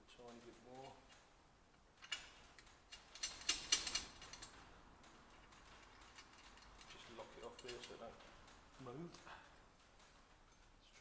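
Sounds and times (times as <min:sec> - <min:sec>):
metal forming tool clicking: 0:00.3 - 0:11.0.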